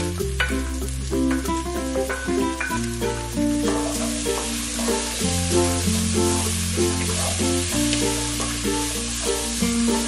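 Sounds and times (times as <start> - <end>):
background music: 0.0 - 10.0
vegetables sizzling in a pot: 0.0 - 10.0.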